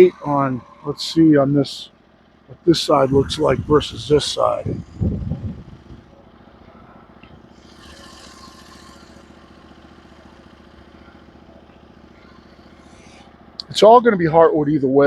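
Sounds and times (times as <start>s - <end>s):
sawmill engine idling: 0.0s - 15.0s.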